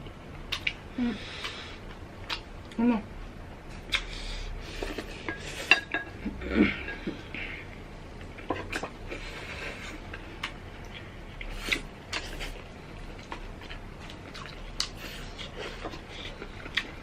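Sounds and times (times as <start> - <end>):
people chewing: 0.5 - 2.8, 3.7 - 17.0.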